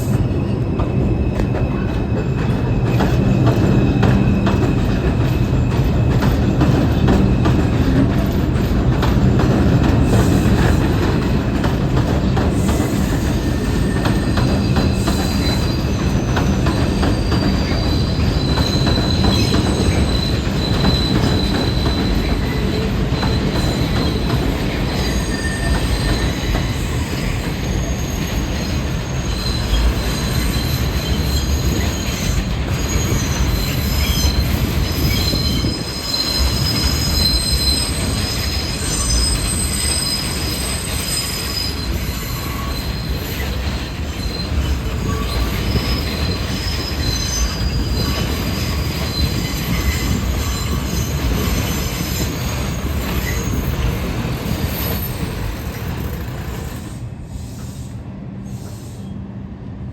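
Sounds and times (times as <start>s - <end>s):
wheels squealing on rails: 0.0s - 59.3s
subway train rumble: 0.0s - 59.9s.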